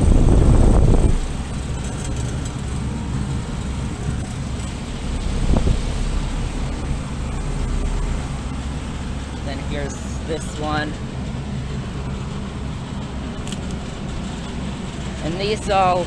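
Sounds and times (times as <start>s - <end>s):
compressor humming: 0.0s - 16.0s
condenser fan whoosh: 0.0s - 16.0s.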